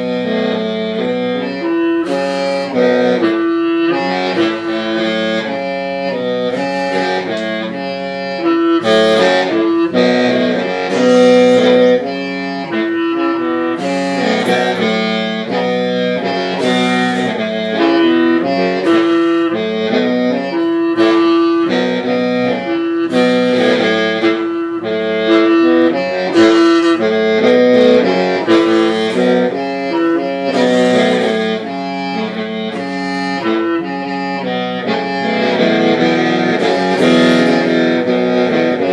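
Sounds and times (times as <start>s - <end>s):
mouth organ melody over drone: 0.0s - 38.9s.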